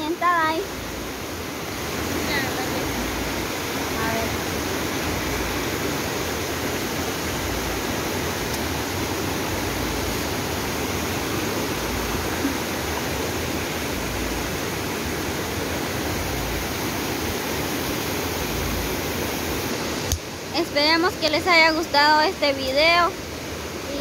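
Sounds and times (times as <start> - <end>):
river rushing over rocks: 0.0 - 24.0.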